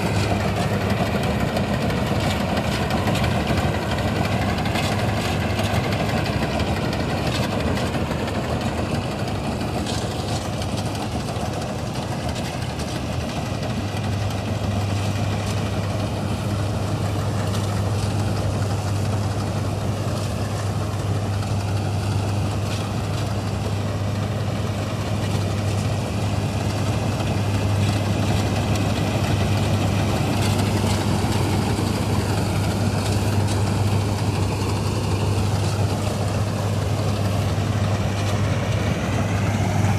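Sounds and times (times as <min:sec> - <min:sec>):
combine harvester engine humming: 0:00.0 - 0:39.9.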